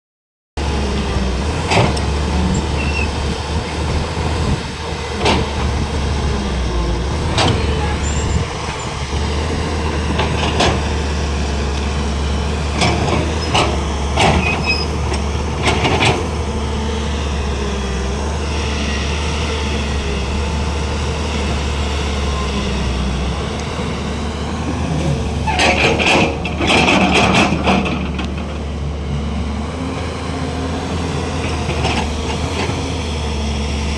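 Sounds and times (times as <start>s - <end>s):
excavator diesel engine running: 0.6s - 33.9s.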